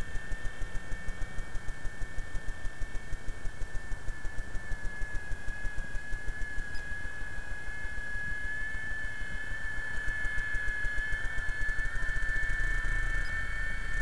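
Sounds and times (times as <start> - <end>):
model helicopter whine: 0.0 - 14.0.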